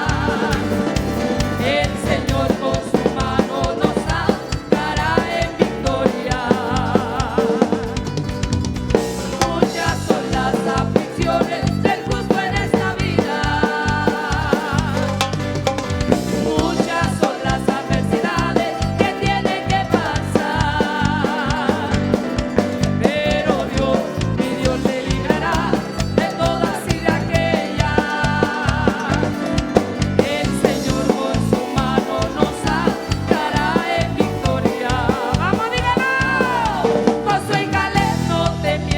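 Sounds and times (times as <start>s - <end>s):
bass: 0.0s - 38.9s
drum kit: 0.0s - 38.9s
gospel band music: 0.0s - 38.9s.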